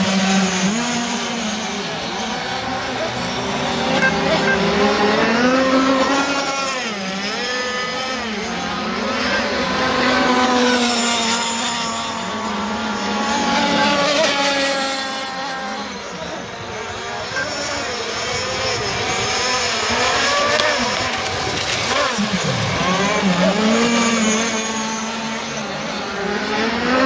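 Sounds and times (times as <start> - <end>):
rc boat engines racing: 0.0 - 27.0.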